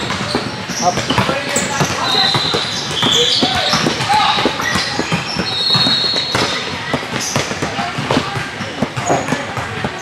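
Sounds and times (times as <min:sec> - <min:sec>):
basketball bouncing: 0:00.0 - 0:10.0
footsteps knocking on court: 0:00.0 - 0:10.0
sneakers squeaking: 0:00.0 - 0:10.0.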